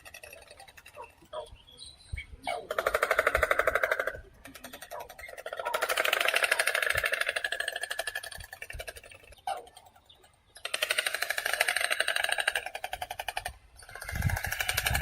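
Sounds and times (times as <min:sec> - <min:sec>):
stork bill clattering: 0:00.0 - 0:01.6, 0:02.4 - 0:15.0.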